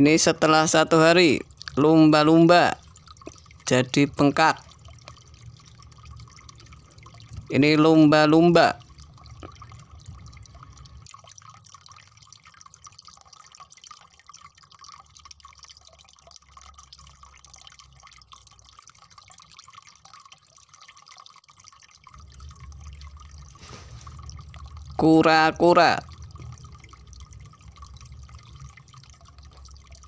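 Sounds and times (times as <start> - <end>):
wet clicking and dripping: 0.2 - 30.0.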